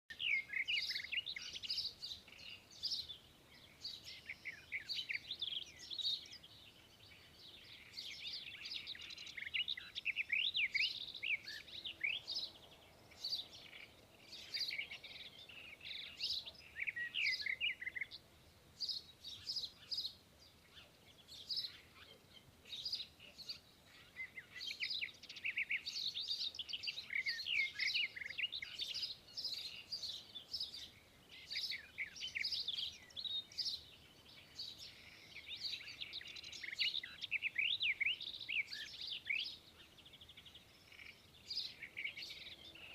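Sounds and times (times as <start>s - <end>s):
birds chirping and twittering: 0.1s - 42.9s.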